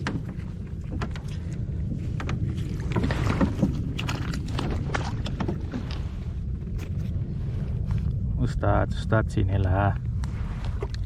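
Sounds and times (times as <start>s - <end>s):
water splashing around kayak: 0.0s - 8.6s, 10.1s - 11.0s
wind rumble on microphone: 0.0s - 11.0s.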